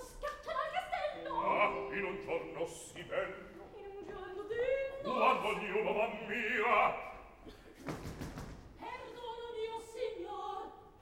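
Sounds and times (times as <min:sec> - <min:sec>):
opera singers singing: 0:00.0 - 0:07.5, 0:08.8 - 0:11.0.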